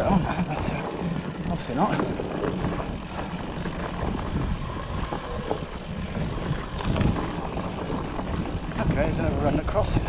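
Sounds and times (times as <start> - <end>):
bike rattling: 0.0 - 10.0
tyres rumbling on dirt: 0.0 - 10.0
wind buffeting microphone: 0.0 - 10.0.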